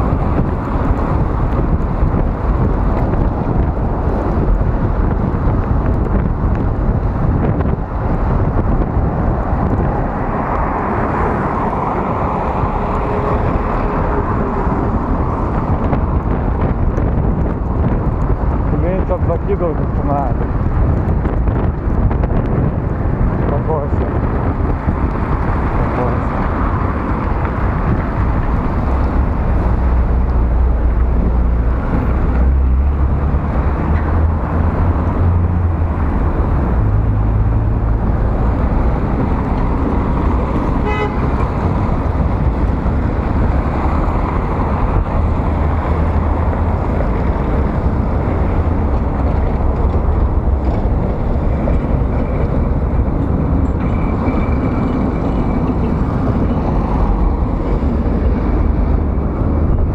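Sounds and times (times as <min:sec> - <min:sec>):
cars on wet road: 0:00.0 - 0:59.9
wind buffeting microphone: 0:00.0 - 0:59.9.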